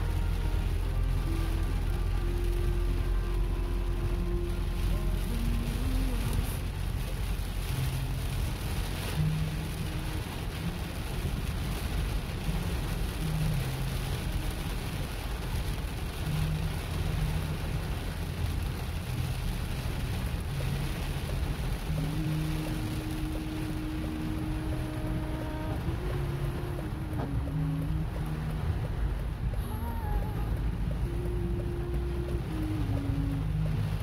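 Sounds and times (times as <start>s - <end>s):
engine and tyres rumbling: 0.0s - 34.0s
heavy rain drumming on car: 0.0s - 34.0s.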